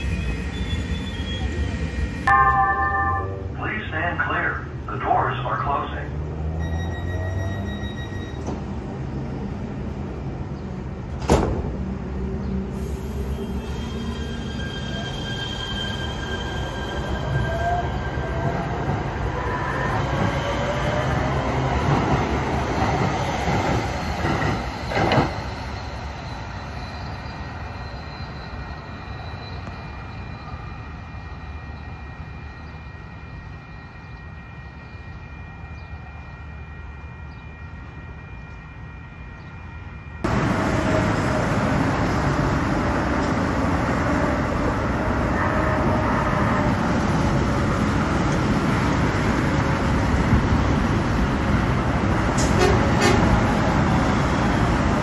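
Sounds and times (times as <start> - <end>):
freeway traffic noise: 0.0 - 14.7, 17.8 - 55.0
light rail train approaching: 0.0 - 55.0
light rail train pulling away: 5.0 - 55.0.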